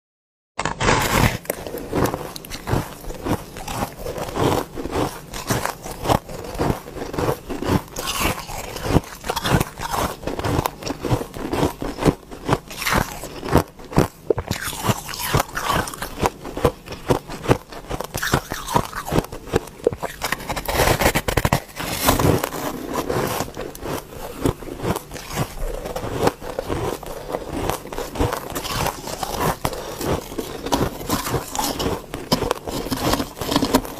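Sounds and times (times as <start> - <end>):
crunching and chewing ice: 0.6 - 33.9.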